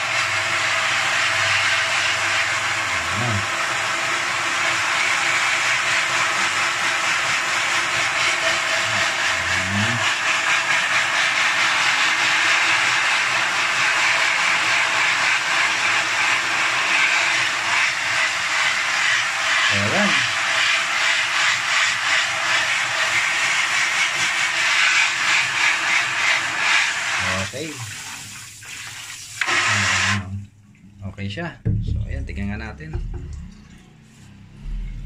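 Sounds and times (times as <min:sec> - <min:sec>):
shower head spraying water: 0:00.0 - 0:30.4.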